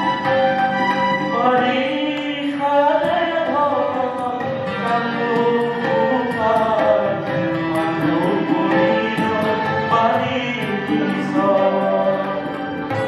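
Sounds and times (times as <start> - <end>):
instrumental accompaniment: 0.0 - 13.0
steady percussion: 0.0 - 13.0
man singing into microphone: 1.2 - 13.0.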